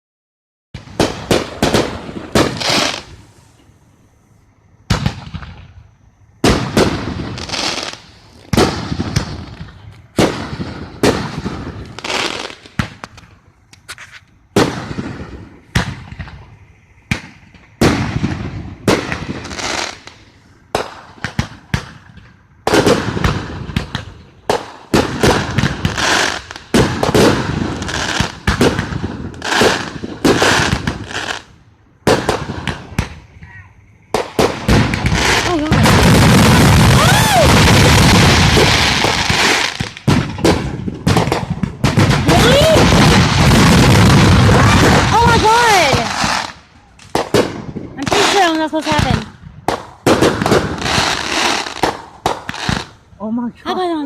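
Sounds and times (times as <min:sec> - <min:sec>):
fireworks bursting with bangs: 0:00.8 - 0:54.0.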